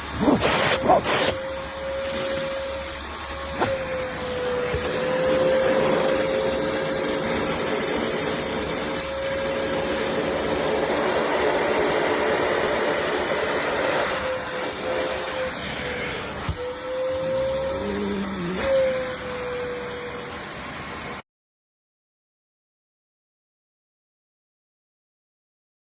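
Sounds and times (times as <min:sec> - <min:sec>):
carpet cleaner motor whine: 0:00.0 - 0:21.2.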